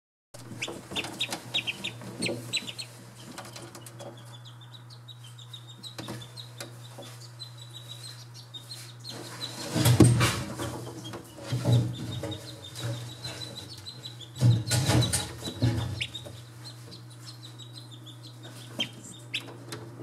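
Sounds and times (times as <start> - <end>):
ducklings peeping: 0.4 - 20.0.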